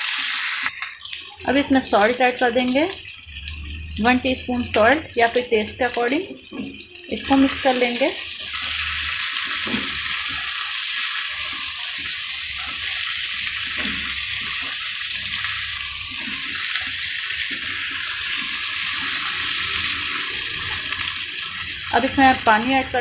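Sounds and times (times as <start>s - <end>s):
meat sizzling in frying pan: 0.0s - 23.0s.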